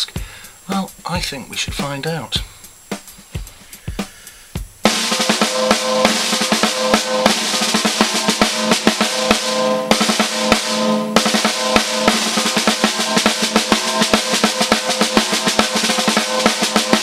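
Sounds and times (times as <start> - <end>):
snare drum strokes and rolls: 0.0 - 17.0.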